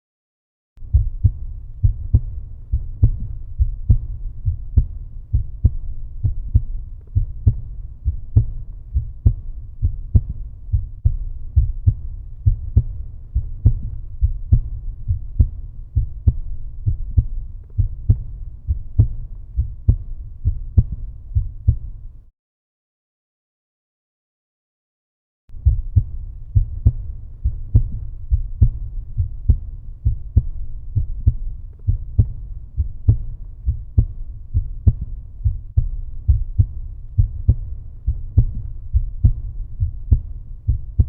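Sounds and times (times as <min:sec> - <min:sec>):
heartbeat thumps: 0:00.8 - 0:22.2, 0:25.5 - 0:41.0.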